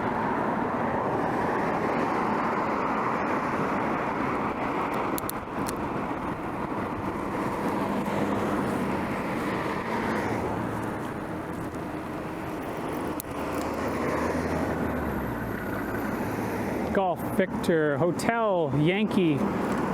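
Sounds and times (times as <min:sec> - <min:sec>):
car tyre and engine noise: 0:00.0 - 0:19.9
low engine hum: 0:00.0 - 0:19.9.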